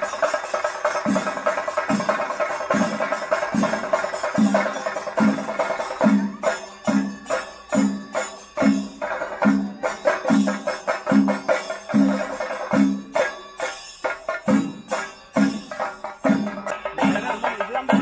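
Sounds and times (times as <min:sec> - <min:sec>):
music with percussion beat: 0:00.0 - 0:18.0.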